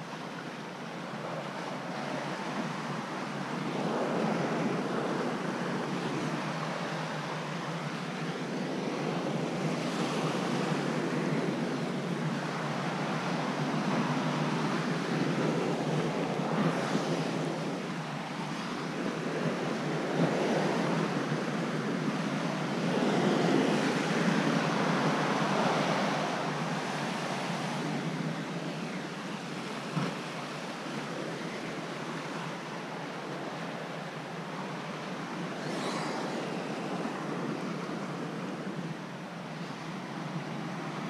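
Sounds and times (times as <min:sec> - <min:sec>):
wind on microphone: 0:00.0 - 0:41.0
surf washing against rocks: 0:01.1 - 0:41.0.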